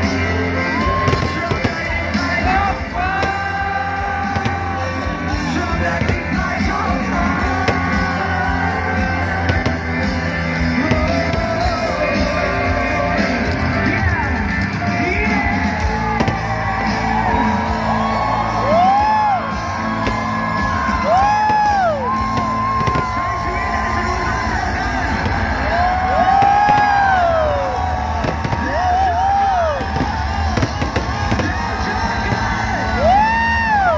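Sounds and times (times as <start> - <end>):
rock music with singing: 0.0 - 33.9
voices yelling: 0.0 - 33.9.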